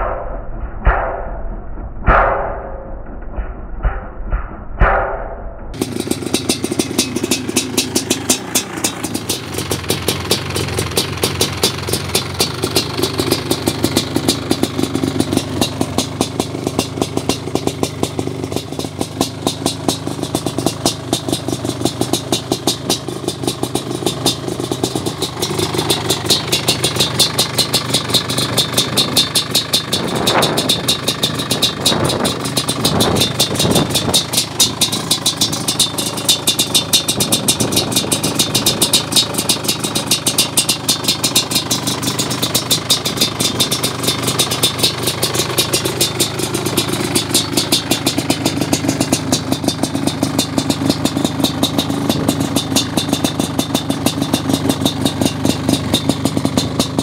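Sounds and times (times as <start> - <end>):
two-stroke engine idling: 5.7 - 57.0.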